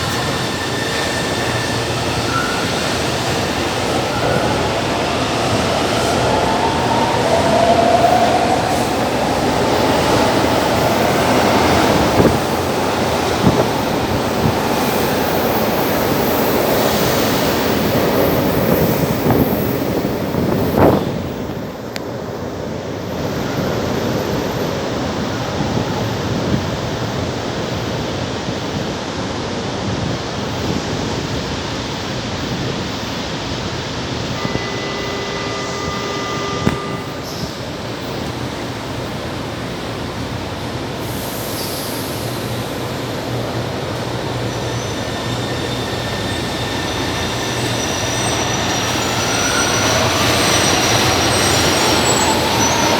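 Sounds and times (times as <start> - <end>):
train rumble: 0.0 - 52.9.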